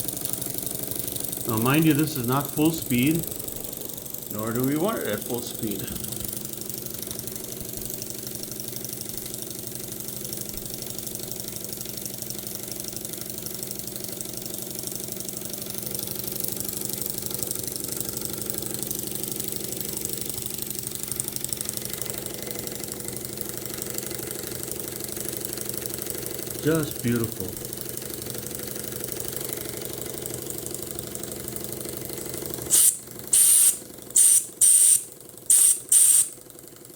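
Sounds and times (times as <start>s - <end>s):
toy steam engine running: 0.0s - 36.6s.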